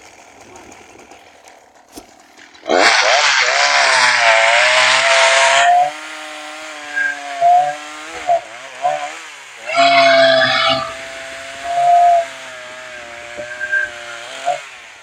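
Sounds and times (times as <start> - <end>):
chainsaw revving: 0.0 - 15.0.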